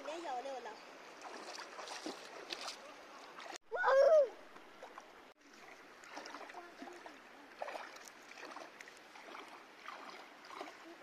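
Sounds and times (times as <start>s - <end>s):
stream washing: 0.0s - 11.0s
feet splashing in shallow water: 1.0s - 4.0s, 4.6s - 11.0s.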